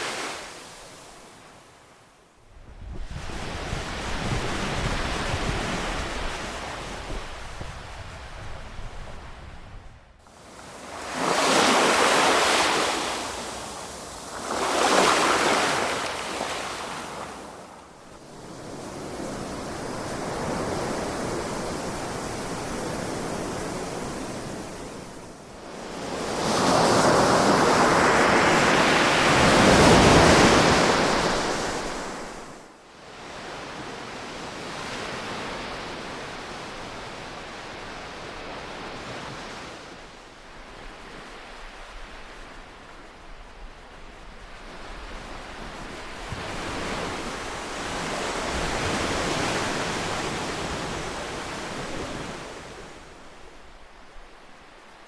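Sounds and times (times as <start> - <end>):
ocean waves breaking on shore: 0.0 - 1.9, 3.0 - 55.0.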